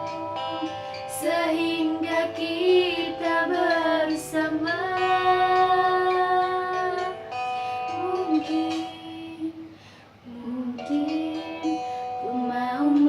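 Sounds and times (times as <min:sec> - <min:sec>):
guitar accompaniment: 0:00.0 - 0:13.0
woman singing: 0:00.0 - 0:13.0.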